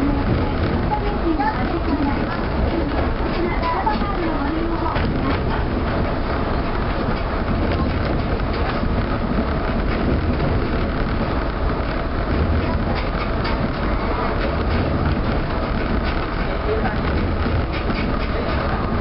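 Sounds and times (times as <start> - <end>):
tram low rumble and tyre noise: 0.0 - 19.0.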